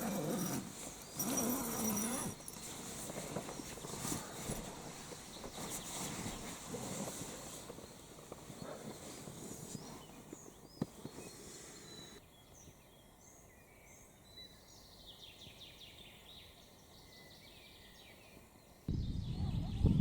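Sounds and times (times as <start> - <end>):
quiet hiss: 0.0 - 18.9
small birds singing: 0.0 - 20.0.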